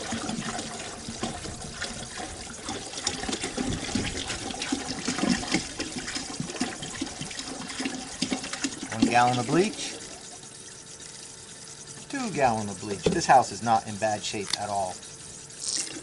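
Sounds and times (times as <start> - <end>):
liquid pouring and splashing: 0.0 - 16.0.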